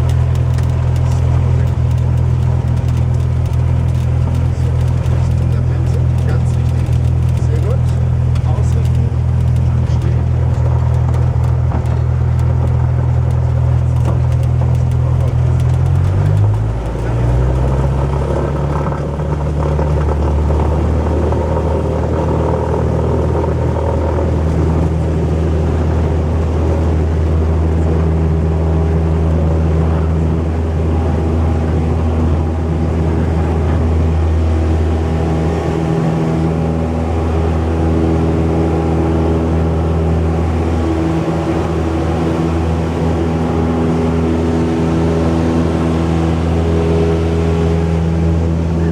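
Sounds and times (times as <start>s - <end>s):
propeller plane engine running: 0.0s - 48.9s.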